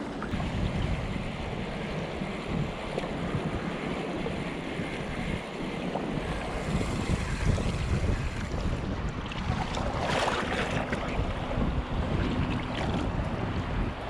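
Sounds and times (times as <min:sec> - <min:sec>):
small waves washing: 0:00.0 - 0:14.0
wind buffeting microphone: 0:00.0 - 0:14.0.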